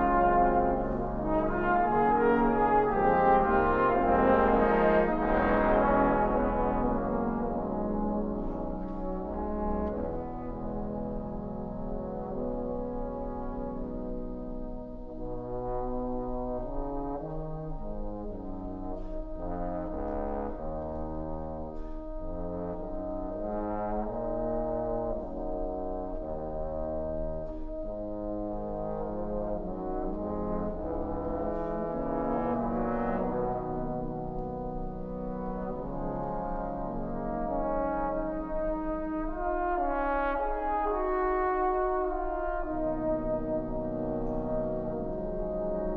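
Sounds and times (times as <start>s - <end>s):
trombone choir playing chords: 0.0s - 45.9s.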